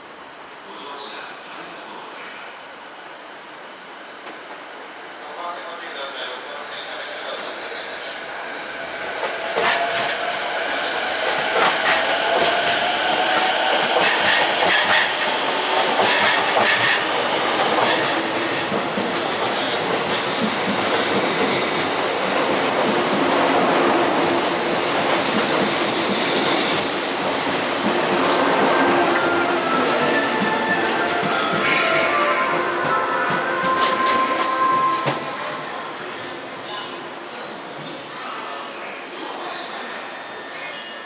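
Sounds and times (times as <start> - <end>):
electric train passing: 6.8 - 40.7.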